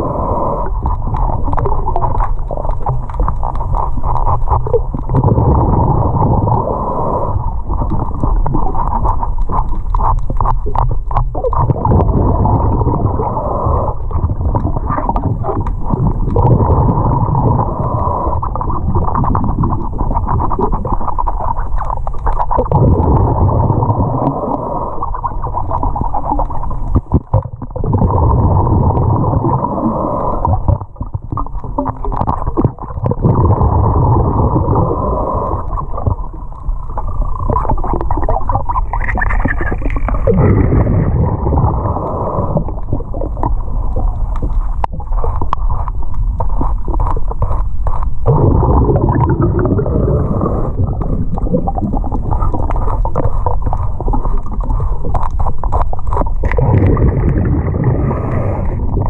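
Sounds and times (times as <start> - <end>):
water rushing and gurgling underwater: 0.0 - 59.0.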